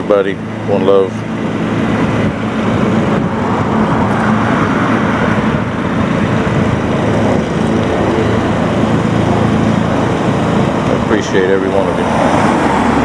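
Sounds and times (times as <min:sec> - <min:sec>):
low engine hum: 0:00.0 - 0:13.0
road rushing noise: 0:00.0 - 0:13.0.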